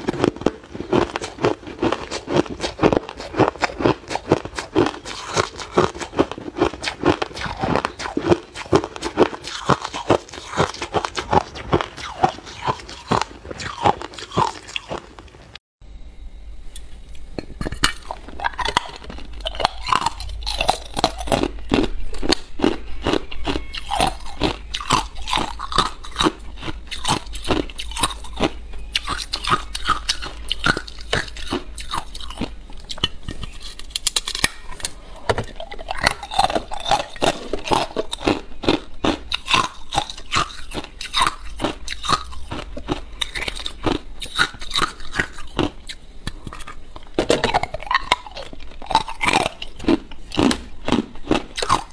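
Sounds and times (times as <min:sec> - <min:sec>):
ice crunching as it is chewed: 0:00.0 - 0:15.6, 0:17.4 - 0:51.9.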